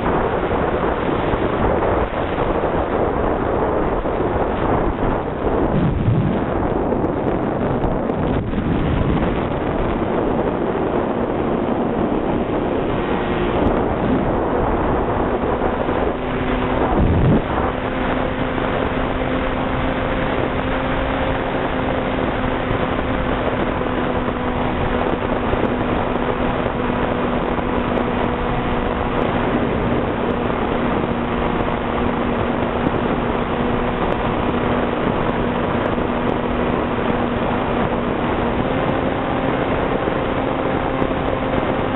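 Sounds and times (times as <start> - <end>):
wind rush over microphone: 0.0 - 41.9.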